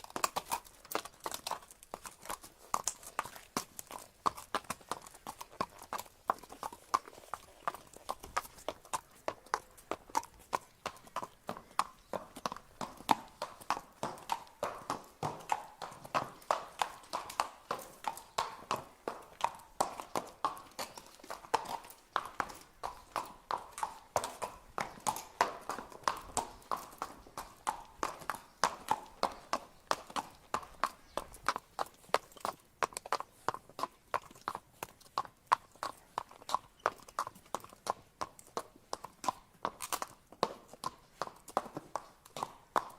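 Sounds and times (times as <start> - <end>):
horse hooves clip-clopping: 0.0 - 42.9.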